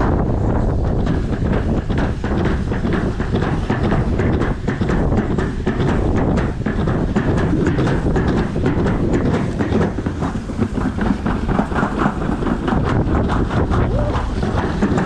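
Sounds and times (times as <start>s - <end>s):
sled rumbling on metal track: 0.0s - 15.0s
rapid rattling clicks: 1.0s - 15.0s.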